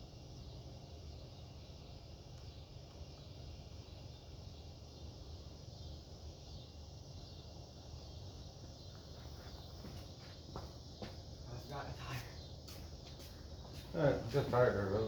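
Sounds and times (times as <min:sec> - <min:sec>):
faint insect drone: 0:00.0 - 0:15.0.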